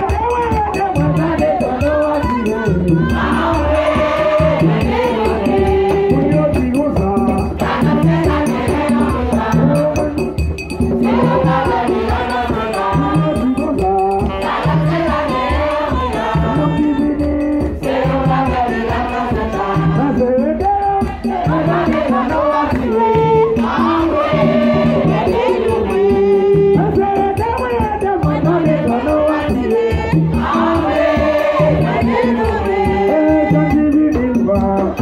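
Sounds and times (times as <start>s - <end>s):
crowd singing together: 0.0s - 35.0s.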